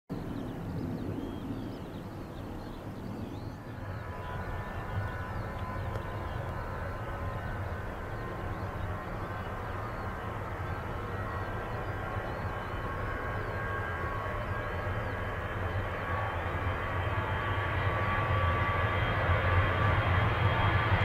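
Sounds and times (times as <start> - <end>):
jet engines low rumble: 0.1 - 21.0.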